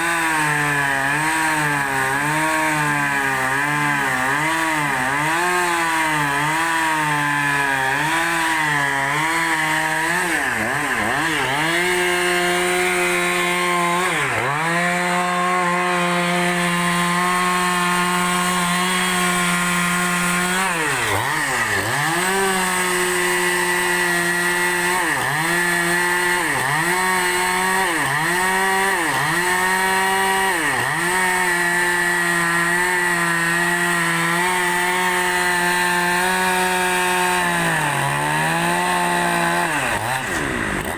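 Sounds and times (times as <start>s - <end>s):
chainsaw ripping a log: 0.0s - 40.9s.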